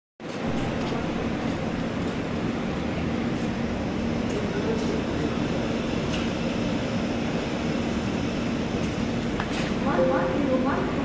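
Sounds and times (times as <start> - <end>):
air conditioning exhaust rushing: 0.2 - 11.0.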